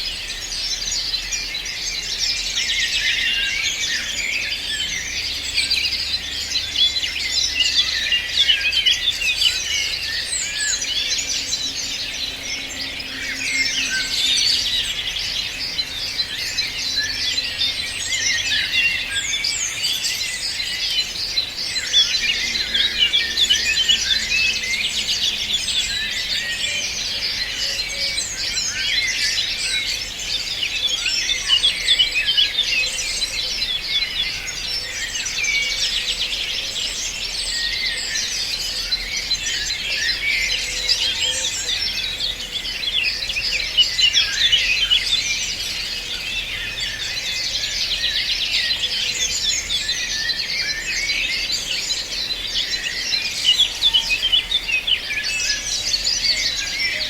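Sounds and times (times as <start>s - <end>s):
chorus of birds singing: 0.0s - 57.0s.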